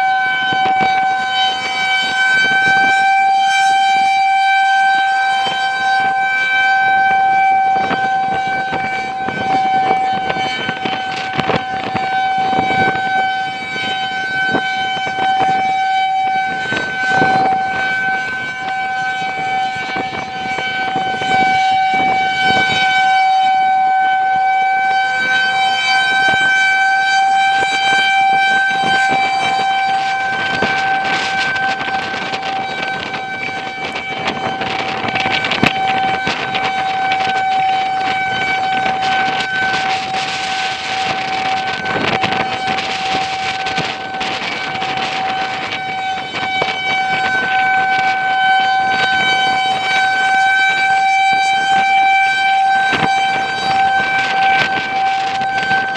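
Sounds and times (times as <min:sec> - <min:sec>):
warning siren steady tone: 0:00.0 - 0:55.9
wind buffeting microphone: 0:00.0 - 0:55.9.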